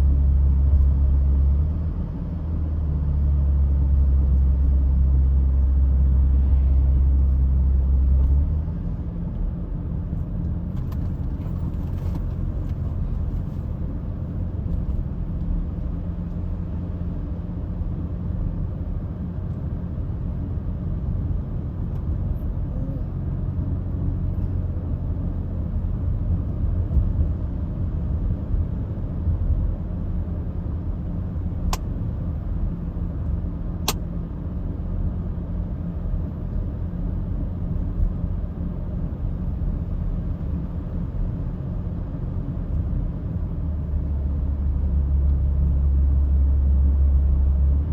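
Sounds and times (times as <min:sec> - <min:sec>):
car road and engine rumble: 0:00.0 - 0:47.9.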